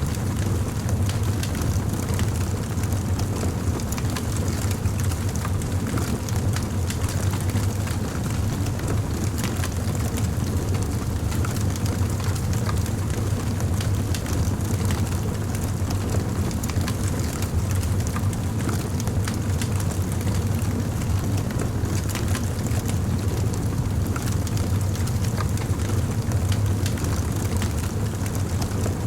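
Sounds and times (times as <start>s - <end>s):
fire crackling and popping: 0.1s - 29.0s.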